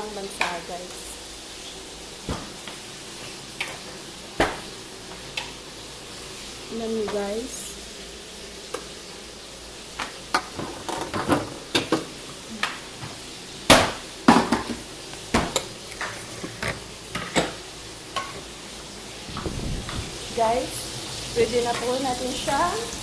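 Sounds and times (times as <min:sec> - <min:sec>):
chicken frying in oil: 0:00.0 - 0:23.0.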